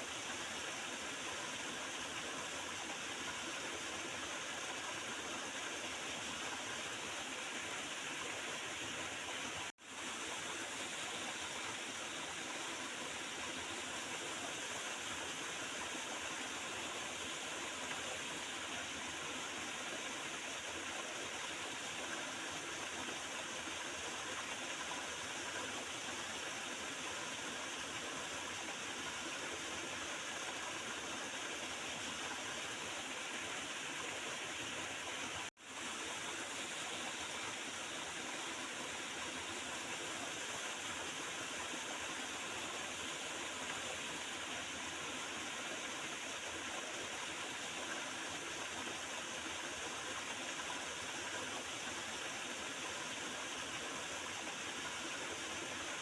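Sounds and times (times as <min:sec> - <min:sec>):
small river flowing and gurgling: 0:00.0 - 0:56.0.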